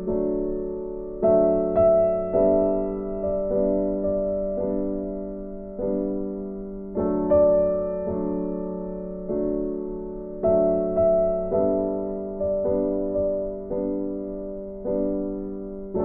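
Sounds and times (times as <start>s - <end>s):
slow keyboard chords: 0.0s - 16.0s.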